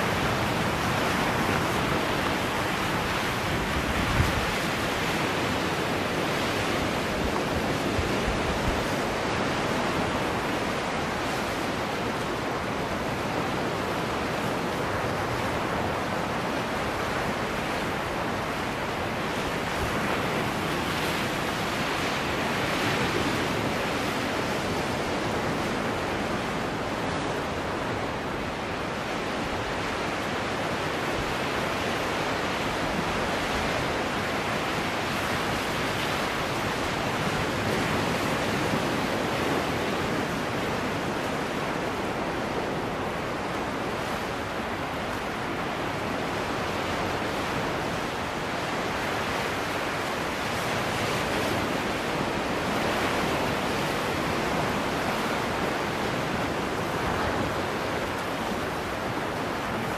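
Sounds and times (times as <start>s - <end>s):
waves washing against rocks: 0.0s - 59.9s.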